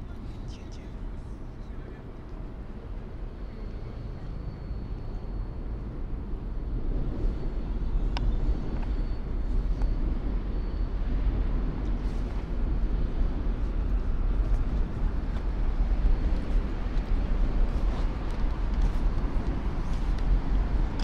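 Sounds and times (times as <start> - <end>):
low rumble of city noise: 0.0 - 21.0.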